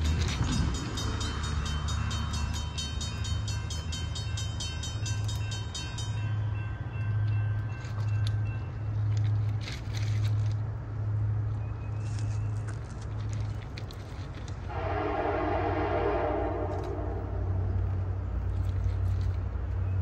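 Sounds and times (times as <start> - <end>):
distant train rumble: 0.0 - 20.0.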